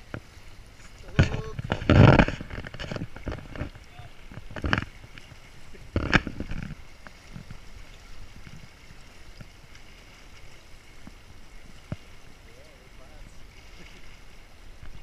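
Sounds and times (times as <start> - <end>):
river current washing: 0.0 - 15.0
water sloshing around legs: 0.0 - 15.0.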